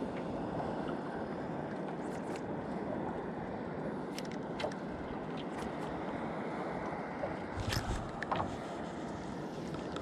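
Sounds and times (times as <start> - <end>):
water slapping against hull: 0.0 - 3.3, 4.0 - 10.0
water and wind washing: 0.0 - 10.0.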